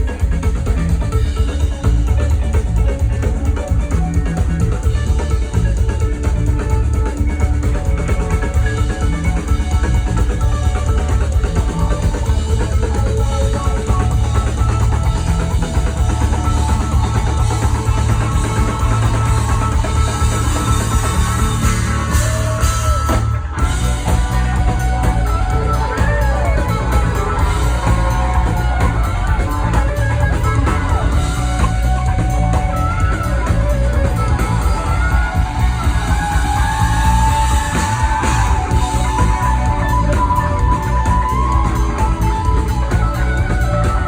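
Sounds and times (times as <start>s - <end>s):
bass guitar: 0.0s - 44.0s
drum kit: 0.0s - 44.0s
electric guitar lead: 0.0s - 44.0s.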